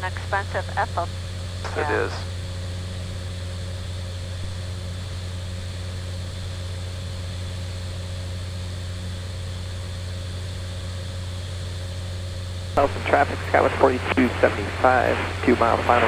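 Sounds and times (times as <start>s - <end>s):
turboprop engine drone in cockpit: 0.0s - 16.0s.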